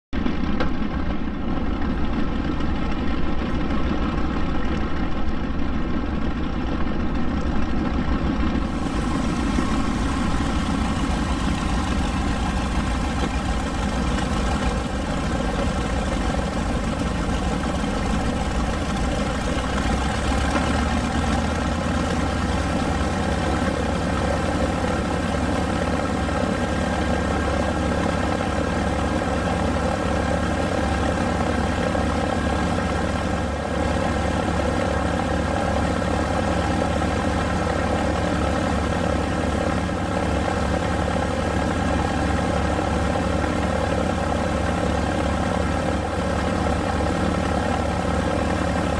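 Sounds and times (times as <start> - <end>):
aircraft radial engines droning: 0.2 - 48.9.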